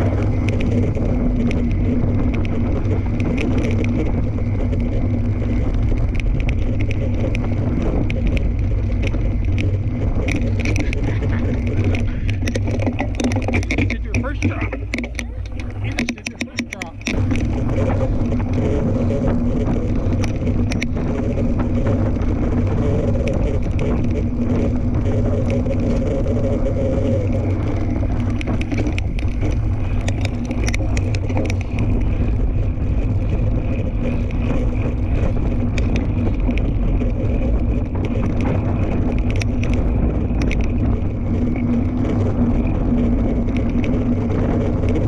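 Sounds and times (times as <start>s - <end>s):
bike clicks and rattles: 0.0s - 45.0s
bike hum: 0.0s - 45.0s
bike tyres rolling on dirt: 0.0s - 45.0s
wind rushing over microphone: 0.0s - 45.0s.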